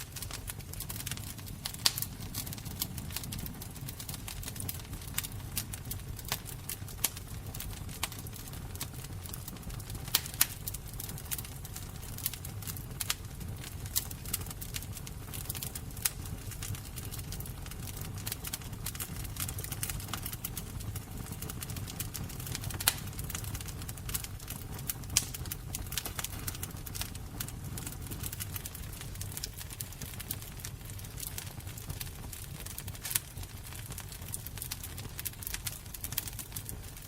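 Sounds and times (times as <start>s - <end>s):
fire crackling and popping: 0.0s - 37.0s
low rumble of flames: 0.0s - 37.0s.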